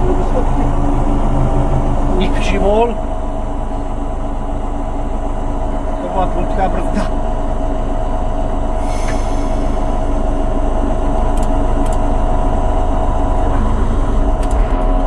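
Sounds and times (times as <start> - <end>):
low rumble: 0.0 - 6.0, 7.6 - 15.0
model train drive humming: 0.0 - 15.0.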